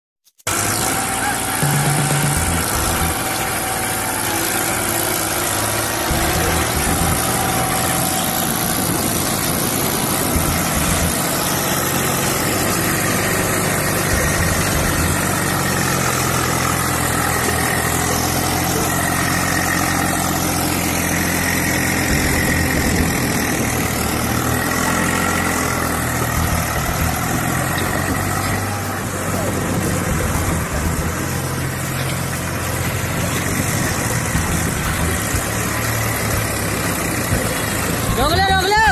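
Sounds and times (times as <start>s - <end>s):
tractor diesel engines running: 0.4s - 38.9s.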